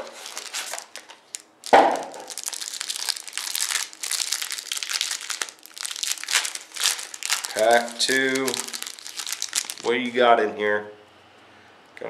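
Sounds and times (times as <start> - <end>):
foil wrapper crinkling: 0.0 - 10.2.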